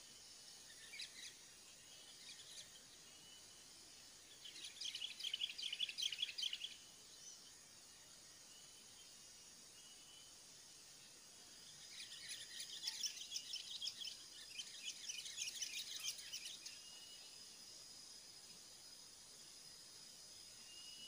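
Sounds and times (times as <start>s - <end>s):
bird chirping: 0.0s - 21.0s
high insect whine: 0.0s - 21.0s.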